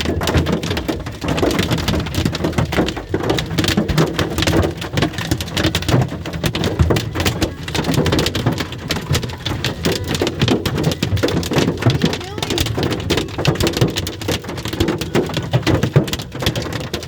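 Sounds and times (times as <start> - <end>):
hail clattering on vehicle: 0.0 - 17.0.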